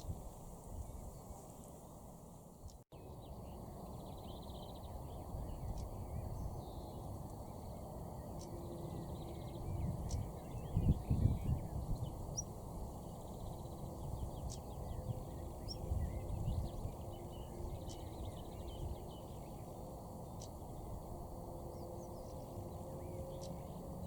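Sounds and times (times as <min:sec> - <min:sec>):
small birds chirping: 0:00.8 - 0:24.0.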